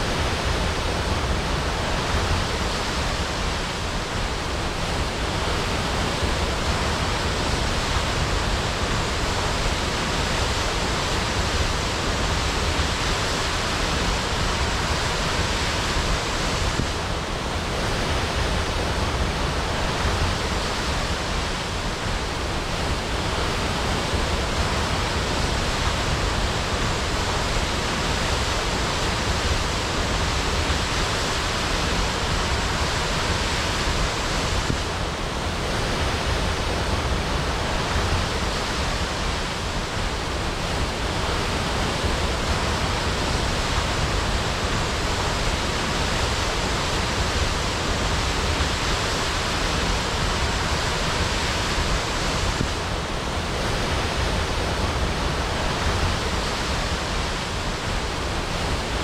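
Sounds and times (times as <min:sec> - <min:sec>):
waterfall crashing: 0:00.0 - 0:59.0.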